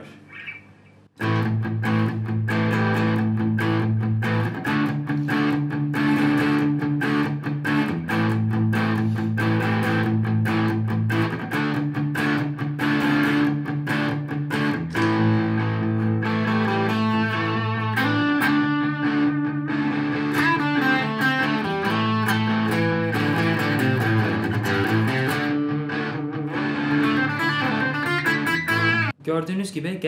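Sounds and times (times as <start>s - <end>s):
electric guitar lead: 1.2s - 29.2s.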